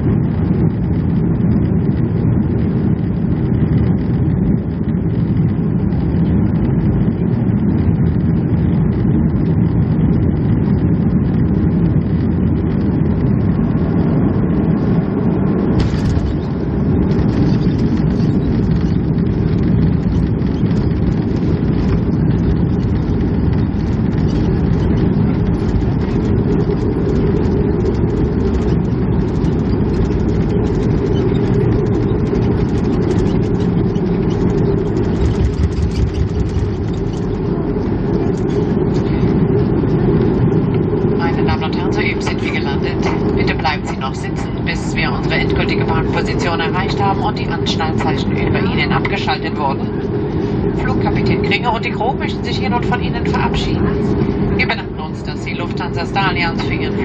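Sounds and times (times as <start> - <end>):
airplane cabin low rumble: 0.0 - 57.0.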